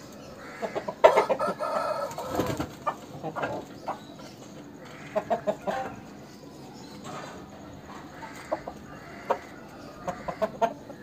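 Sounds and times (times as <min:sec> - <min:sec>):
chicken clucking: 0:00.0 - 0:11.0.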